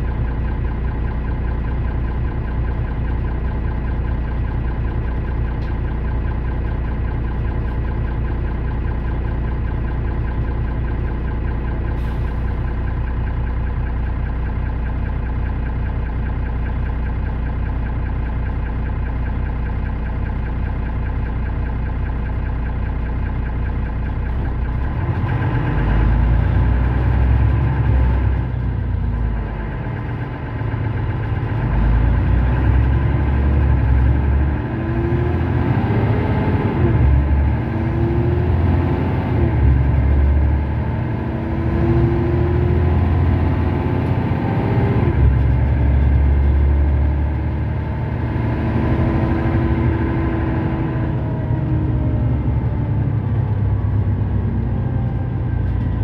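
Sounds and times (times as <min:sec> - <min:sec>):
bus diesel engine idling: 0:00.0 - 0:56.0
deep engine rumble: 0:00.0 - 0:56.0.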